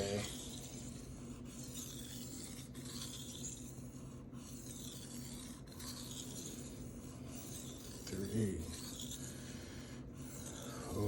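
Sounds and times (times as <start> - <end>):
knife scraping on whetstone: 0.0 - 9.5, 10.2 - 11.0.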